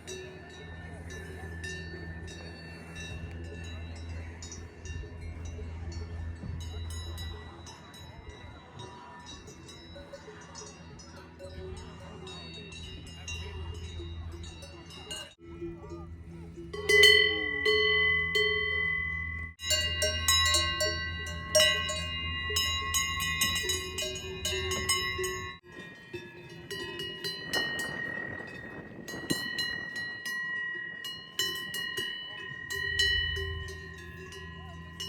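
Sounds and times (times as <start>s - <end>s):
cowbells clanging: 0.0s - 35.0s.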